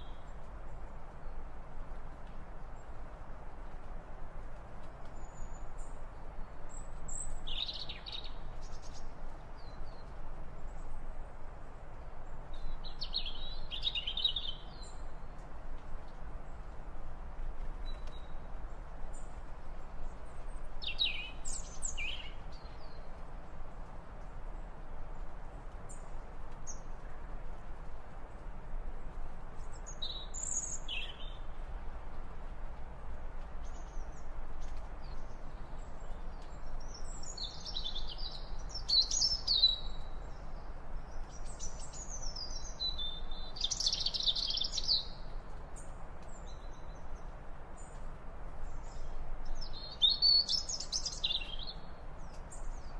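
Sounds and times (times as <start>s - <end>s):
low background hiss: 0.0s - 52.9s.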